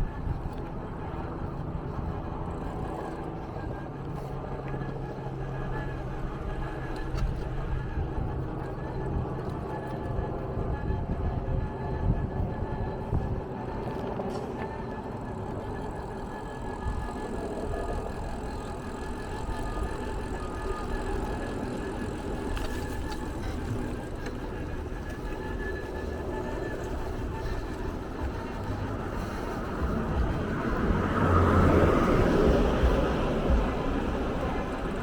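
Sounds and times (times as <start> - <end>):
faint high steady tones: 0.0 - 35.0
vehicle engine rumble: 0.0 - 35.0.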